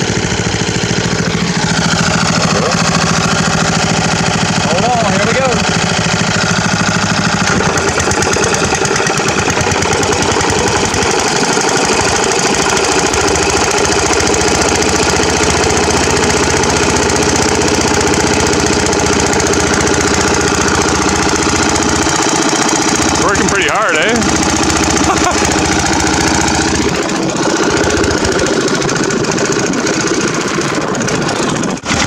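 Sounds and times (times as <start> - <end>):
boat motor running under load: 0.0 - 32.0.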